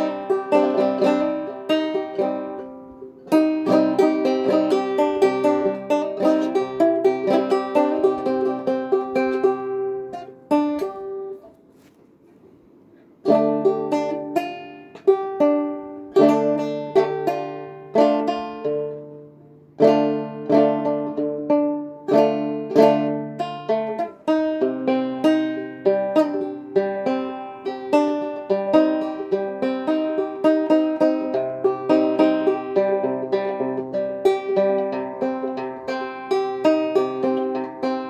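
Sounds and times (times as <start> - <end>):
solo banjo picking: 0.0 - 11.9, 13.0 - 38.0.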